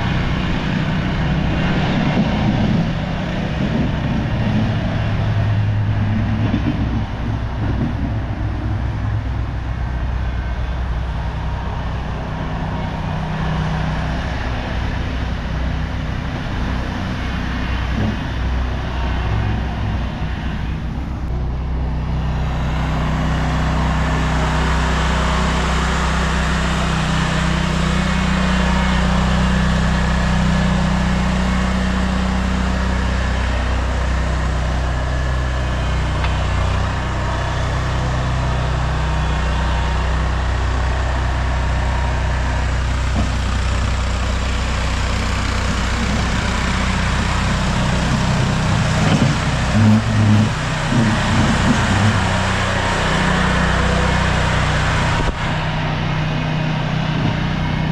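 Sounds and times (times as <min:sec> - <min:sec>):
engine running with low hum: 0:00.0 - 0:57.9
loud rushing noise: 0:00.0 - 0:57.9.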